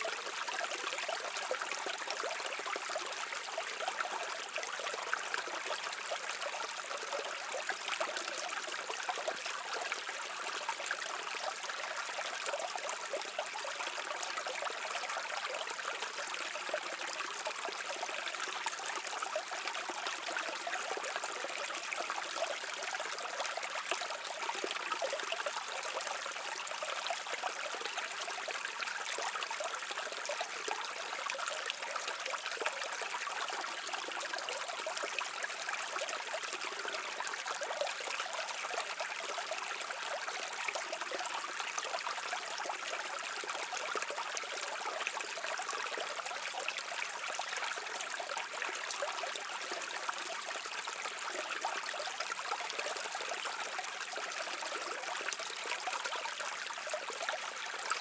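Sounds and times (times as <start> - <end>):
brook water babbling: 0.0 - 58.0.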